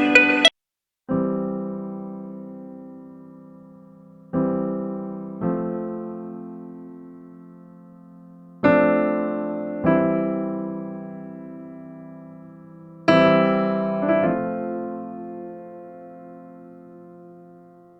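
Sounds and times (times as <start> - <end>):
slow piano chords: 1.1 - 17.9.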